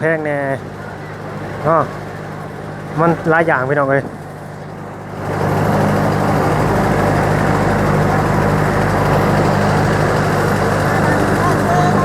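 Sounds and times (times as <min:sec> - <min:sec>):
ferry engine running: 0:00.0 - 0:12.0.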